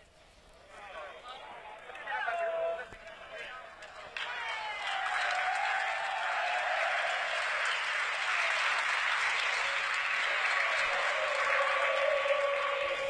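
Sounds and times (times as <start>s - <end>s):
crowd applauding: 1.6s - 13.0s.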